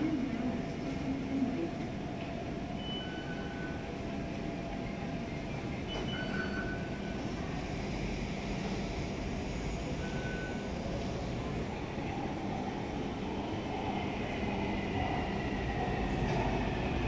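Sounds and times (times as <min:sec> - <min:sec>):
train rumbling through station: 0:00.0 - 0:17.0.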